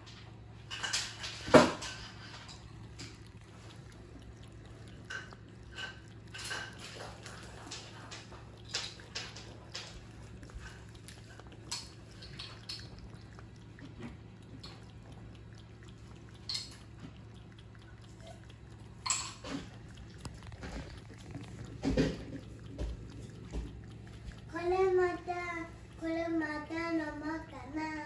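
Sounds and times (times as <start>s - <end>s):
cat lapping liquid: 0.0s - 28.0s.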